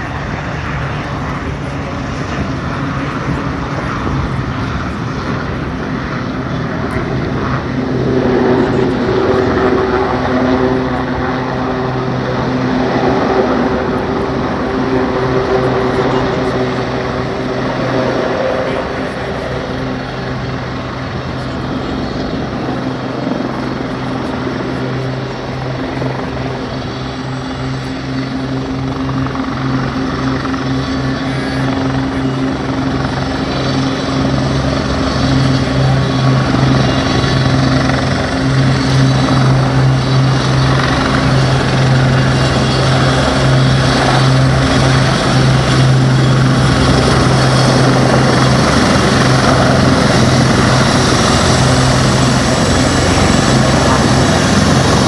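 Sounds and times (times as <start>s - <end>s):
helicopter rotor and turbine drone: 0.0s - 55.0s.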